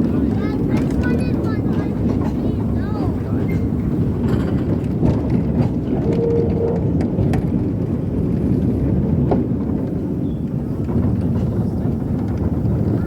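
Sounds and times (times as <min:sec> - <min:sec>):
railway carriage rumbling: 0:00.0 - 0:13.0
track clicks and knocks: 0:00.1 - 0:13.0.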